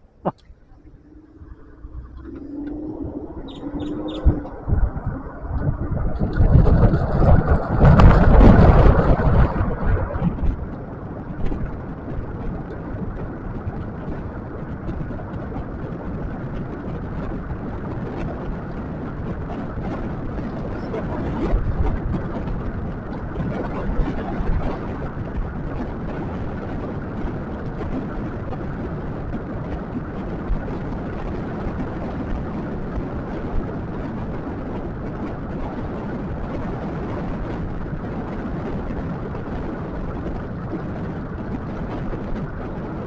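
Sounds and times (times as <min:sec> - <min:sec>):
scooter road noise: 0:00.0 - 0:43.0
wind rushing over microphone: 0:00.0 - 0:43.0.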